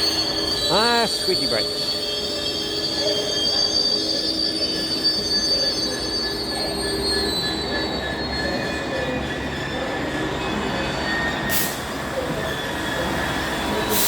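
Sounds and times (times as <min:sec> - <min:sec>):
train brakes squealing: 0:00.0 - 0:14.0.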